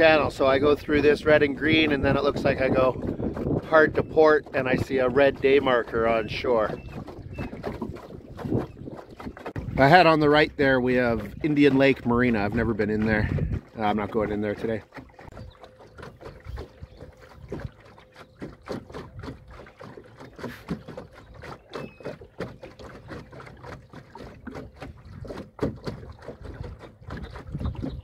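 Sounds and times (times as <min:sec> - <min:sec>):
small waves slapping a hull: 0:00.0 - 0:28.0.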